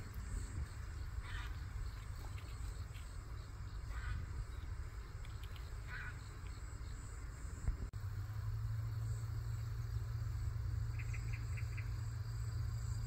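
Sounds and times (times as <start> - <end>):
crickets chirping: 0.0 - 13.0
low steady rumble: 0.0 - 13.0.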